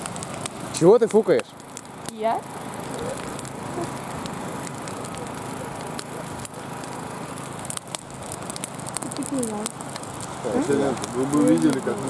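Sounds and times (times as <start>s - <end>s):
campfire crackles and pops: 0.0s - 12.0s
fire rushing hiss: 0.0s - 12.0s.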